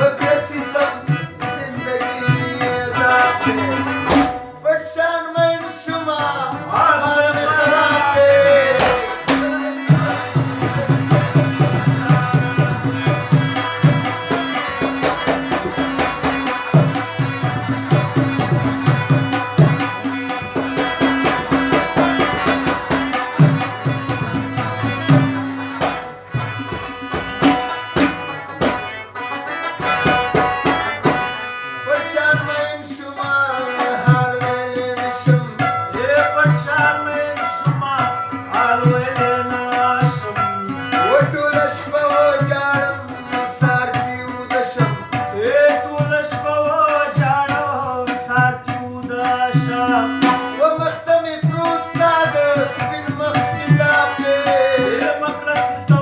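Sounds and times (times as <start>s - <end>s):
tabla strokes: 0.0s - 4.6s, 6.6s - 56.0s
person singing: 0.0s - 25.4s, 31.7s - 56.0s
harmonium drone: 0.0s - 56.0s.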